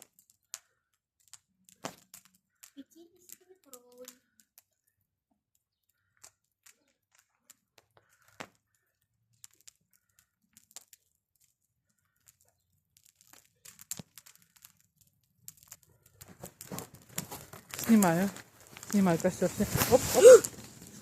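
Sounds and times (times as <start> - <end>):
bonfire crackling: 0.0 - 21.0.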